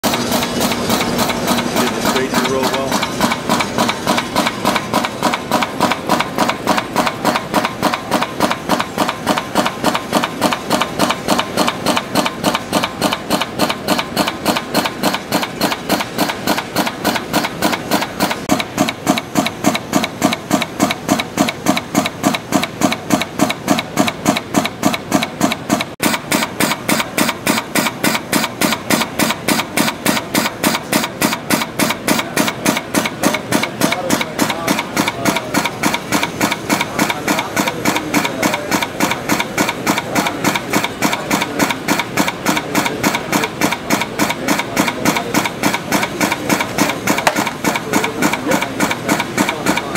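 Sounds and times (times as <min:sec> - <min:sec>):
pneumatic cutter clacking: 0:00.0 - 0:49.9.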